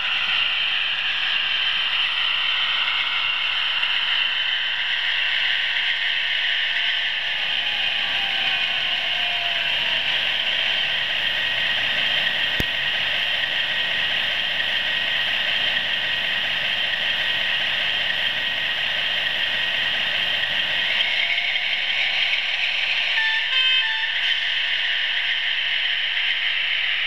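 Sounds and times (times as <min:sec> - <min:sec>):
model trains whirring: 0:00.0 - 0:27.0.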